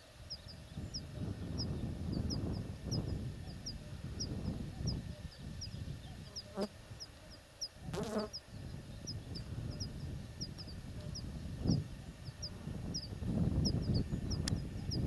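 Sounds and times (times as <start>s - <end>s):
low wind rumble: 0.1s - 7.2s, 7.8s - 15.0s.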